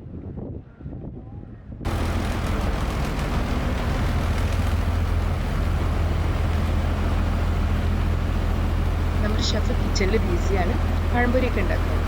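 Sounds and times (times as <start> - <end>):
boat engine droning: 1.9 - 12.0
rushing noise: 1.9 - 12.0.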